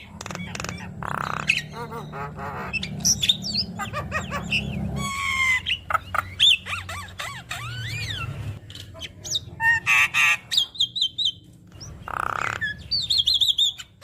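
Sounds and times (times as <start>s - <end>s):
myna bird singing: 0.0s - 14.0s.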